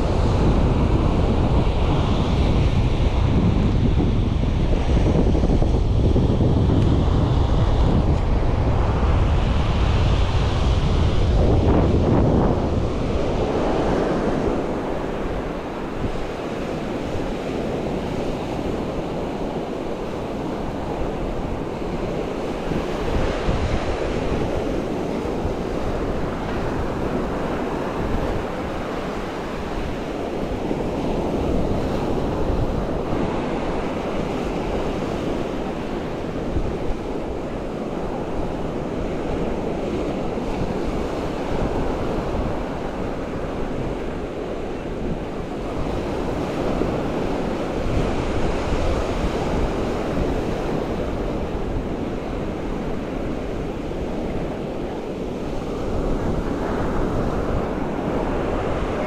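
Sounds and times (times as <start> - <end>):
ocean waves crashing on shore: 0.0 - 59.0
wind rumbling on microphone: 0.0 - 59.0.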